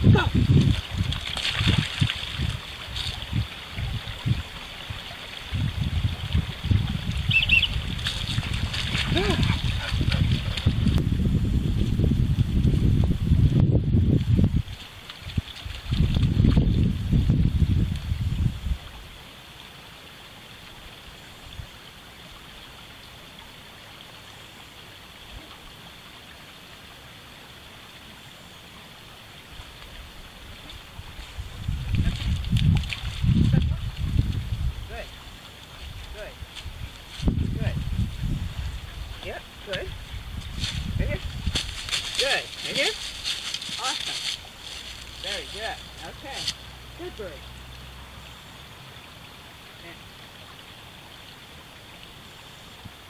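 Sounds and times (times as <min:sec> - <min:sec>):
rushing outdoor background noise: 0:00.0 - 0:53.0
stream trickling: 0:00.0 - 0:53.0.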